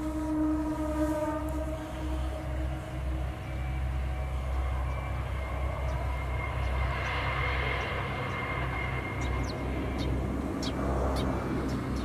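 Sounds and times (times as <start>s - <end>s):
distant railcar engine rumble: 0.0s - 12.0s.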